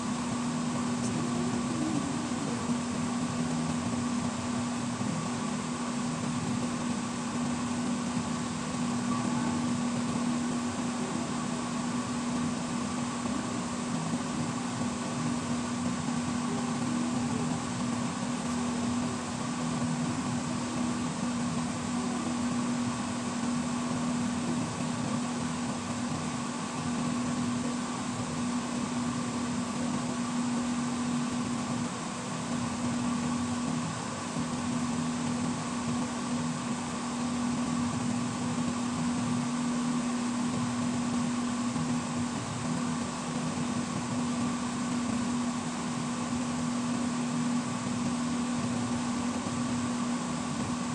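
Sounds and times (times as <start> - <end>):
fan motor humming: 0.0 - 50.9.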